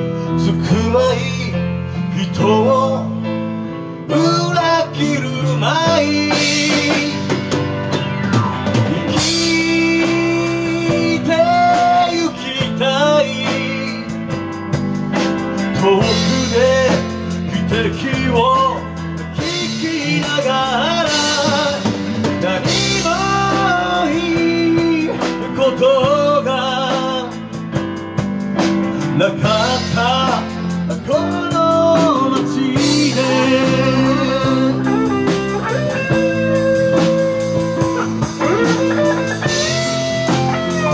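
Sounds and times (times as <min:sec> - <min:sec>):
man singing into microphone: 0:00.0 - 0:07.5, 0:08.9 - 0:14.5, 0:15.6 - 0:27.8, 0:29.0 - 0:40.9
live band playing: 0:00.0 - 0:40.9.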